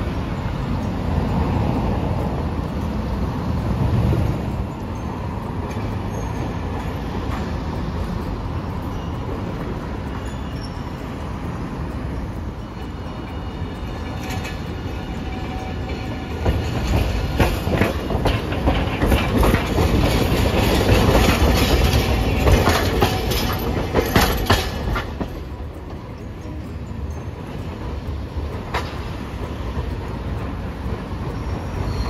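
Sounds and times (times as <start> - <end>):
tram wheels clacking over rails: 0.0 - 32.0.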